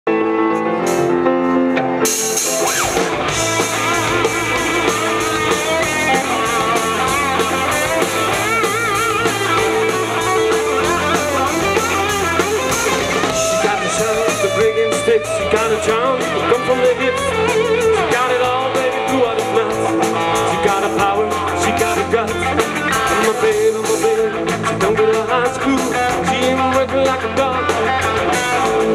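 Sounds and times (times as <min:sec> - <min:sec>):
electric guitars: 0:00.1 - 0:28.9
held chords: 0:00.1 - 0:28.9
drums and cymbals: 0:00.5 - 0:01.2, 0:02.0 - 0:28.9.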